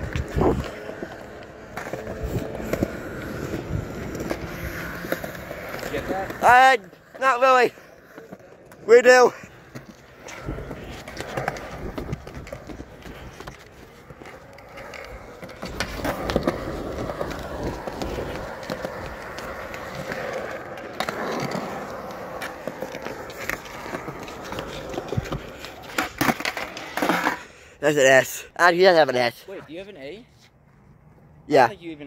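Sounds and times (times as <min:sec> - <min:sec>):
skateboard clacks: 0:00.0 - 0:27.4
skateboard wheels rolling on concrete: 0:00.0 - 0:32.0.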